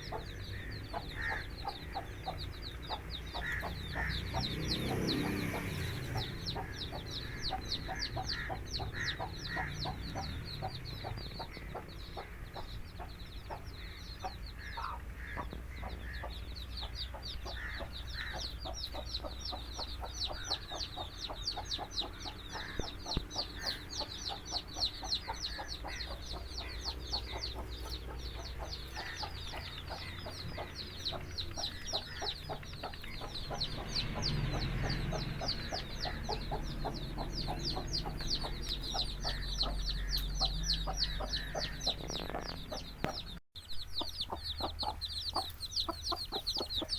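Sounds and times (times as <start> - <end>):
chicks peeping: 0.0 - 46.9
hen clucking: 0.0 - 46.9.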